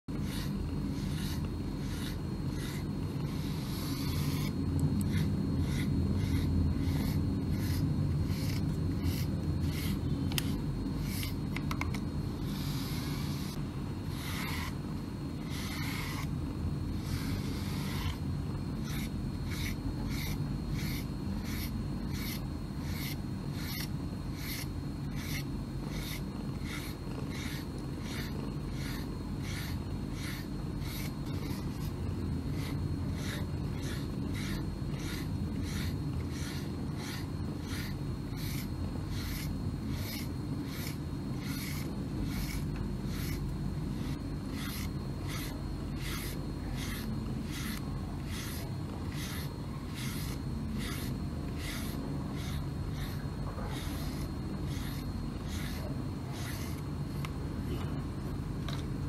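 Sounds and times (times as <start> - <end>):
brush stroking cat fur: 0.1 - 11.4, 12.4 - 14.8, 15.4 - 16.3, 17.0 - 18.2, 18.8 - 57.3.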